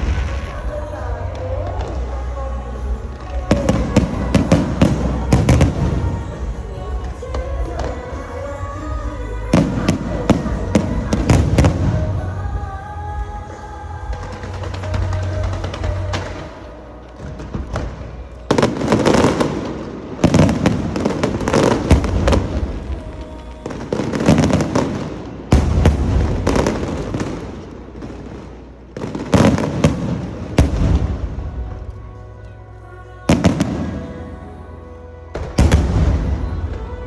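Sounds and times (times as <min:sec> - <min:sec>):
fireworks bursting and crackling: 0:00.0 - 0:08.6, 0:09.5 - 0:12.7, 0:14.0 - 0:32.0, 0:35.4 - 0:37.0.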